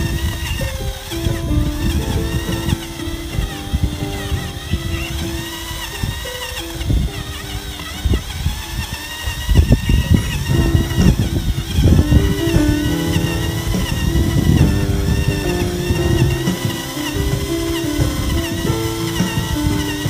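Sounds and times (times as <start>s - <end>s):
paddle churning foamy liquid: 0.0s - 20.0s
stirrer motor whine: 0.0s - 20.0s.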